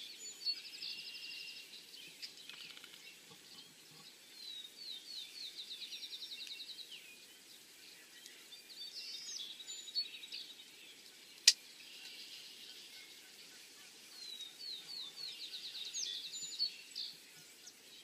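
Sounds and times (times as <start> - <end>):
faint outdoor background noise: 0.0 - 18.0
songbirds trilling and chirping: 0.0 - 18.0.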